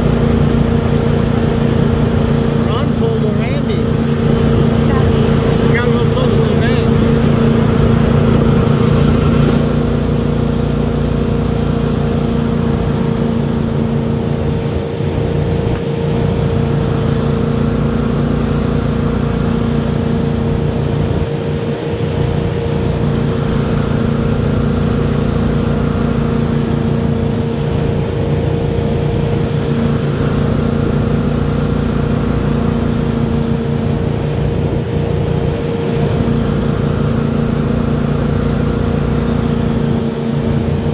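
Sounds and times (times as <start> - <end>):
boat engine droning: 0.0 - 40.9
water rushing: 0.0 - 40.9.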